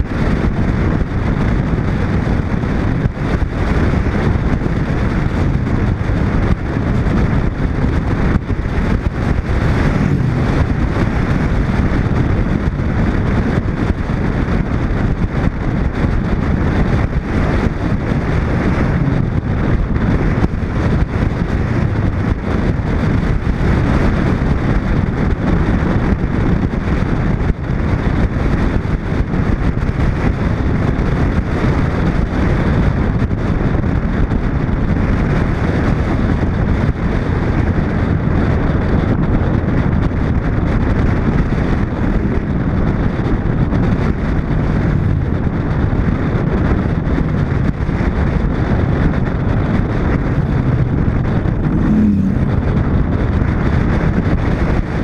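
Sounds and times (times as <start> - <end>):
car engine: 0.0 - 55.0
wind buffeting camera: 0.0 - 55.0.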